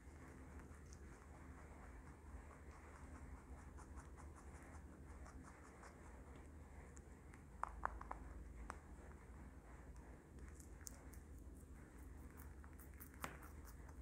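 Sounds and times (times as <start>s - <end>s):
rabbit crunching vegetables: 0.0s - 9.1s, 10.3s - 14.0s.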